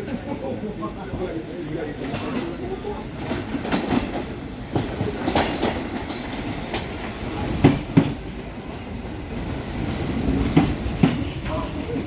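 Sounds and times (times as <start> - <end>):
subway train wheels clacking: 0.0 - 12.0
train rumble: 1.0 - 12.0.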